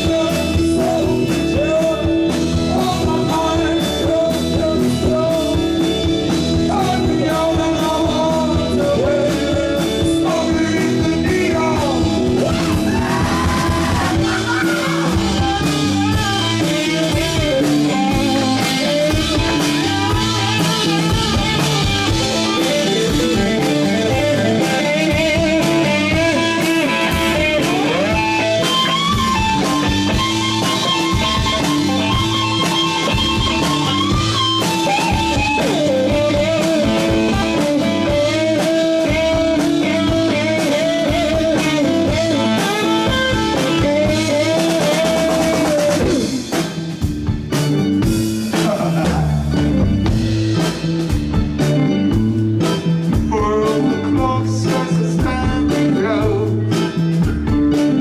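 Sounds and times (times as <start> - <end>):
bass guitar: 0.0 - 58.0
drum kit: 0.0 - 58.0
electric guitar lead: 0.0 - 58.0.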